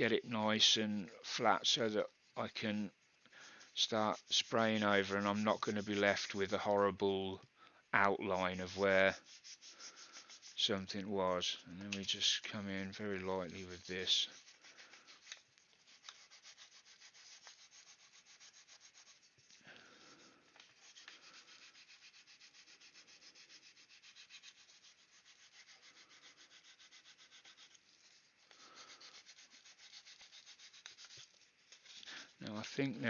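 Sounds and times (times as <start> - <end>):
light sanding strokes: 0.0 - 7.3, 7.9 - 33.0.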